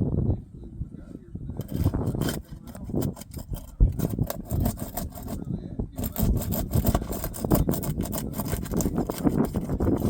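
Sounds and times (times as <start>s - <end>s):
shingles scraping and rubbing: 1.6s - 10.0s.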